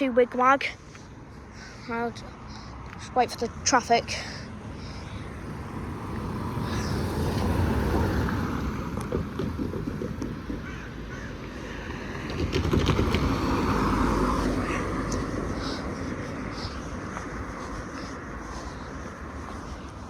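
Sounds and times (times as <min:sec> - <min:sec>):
road vehicles passing: 0:00.0 - 0:20.0.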